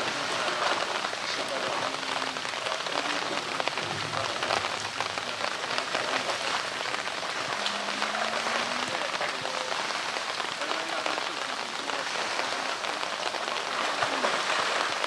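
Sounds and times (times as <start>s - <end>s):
water splashing in a pool: 0.0s - 15.0s.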